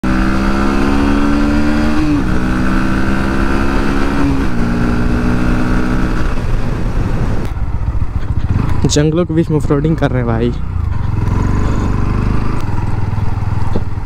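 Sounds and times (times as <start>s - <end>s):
motorcycle engine running at speed: 0.0s - 14.0s.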